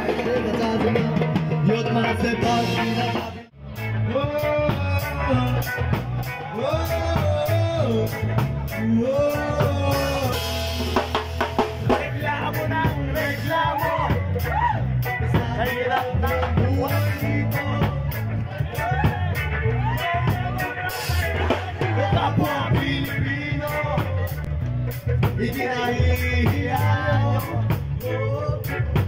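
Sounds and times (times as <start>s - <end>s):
person singing: 0.0s - 10.9s, 11.8s - 29.0s
bass guitar: 0.0s - 29.0s
drum kit beat: 0.0s - 29.0s
electric guitar: 0.0s - 29.0s.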